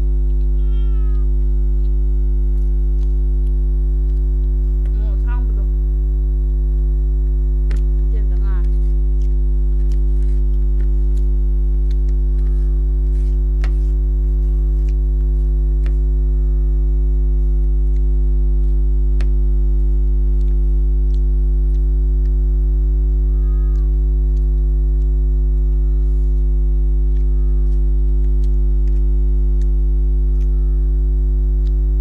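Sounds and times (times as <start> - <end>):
loud electrical hum: 0.0 - 32.0.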